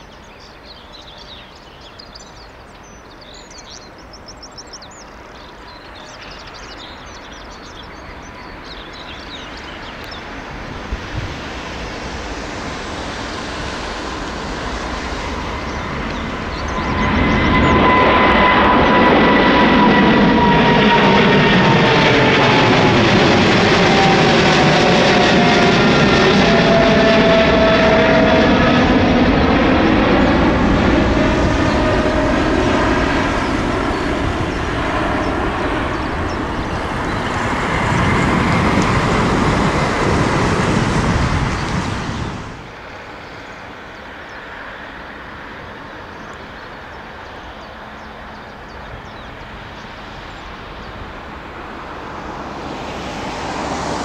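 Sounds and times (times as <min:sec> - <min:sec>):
jet engine roar with whine: 0:00.0 - 0:54.0.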